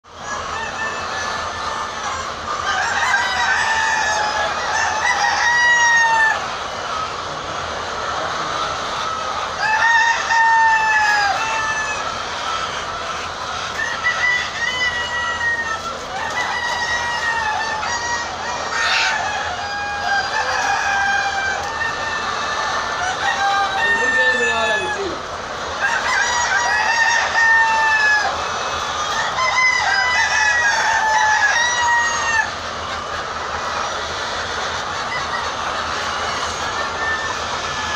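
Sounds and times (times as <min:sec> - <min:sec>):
hens clucking: 0:00.0 - 0:37.9.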